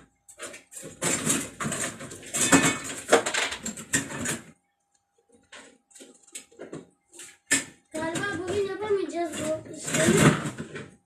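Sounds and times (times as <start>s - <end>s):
circuit boards clattering: 0.3s - 4.6s, 5.4s - 11.0s.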